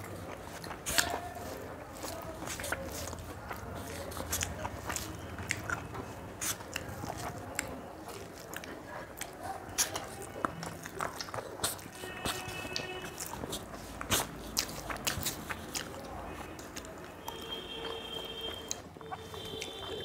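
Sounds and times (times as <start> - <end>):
chewing with mouth clicks: 0.0 - 20.0.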